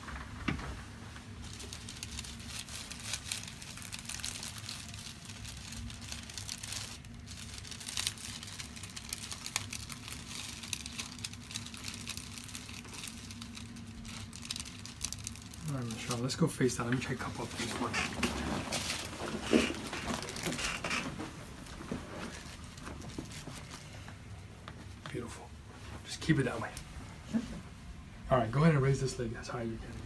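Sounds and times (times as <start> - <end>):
crinkling and rustling: 0.0 - 27.8
steady low hum: 0.0 - 30.0.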